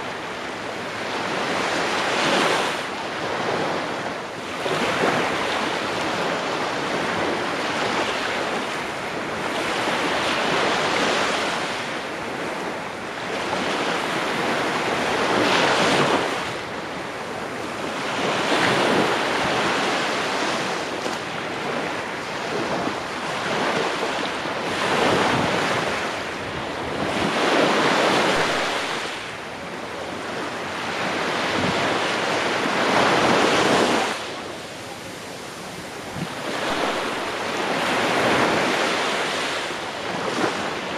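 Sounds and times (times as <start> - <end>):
small waves breaking on beach: 0.0 - 40.9.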